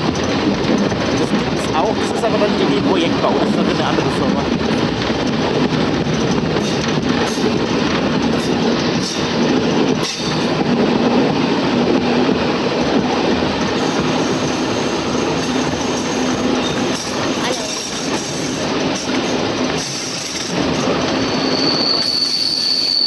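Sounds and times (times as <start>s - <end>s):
wheels clicking over rail joints: 0.0s - 11.3s, 11.9s - 21.2s
train wheels rumbling on rail: 0.0s - 23.0s.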